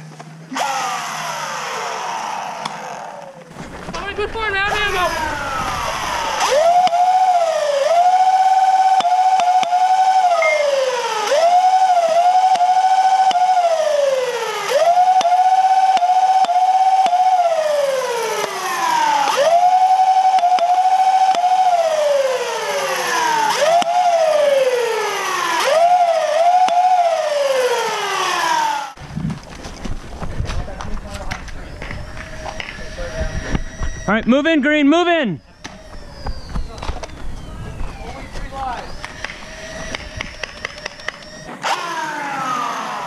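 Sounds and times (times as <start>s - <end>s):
siren wailing: 4.7s - 29.0s, 31.6s - 43.0s.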